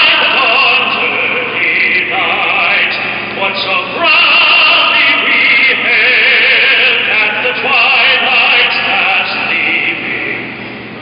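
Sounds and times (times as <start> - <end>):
person singing over loudspeakers: 0.0 - 10.6.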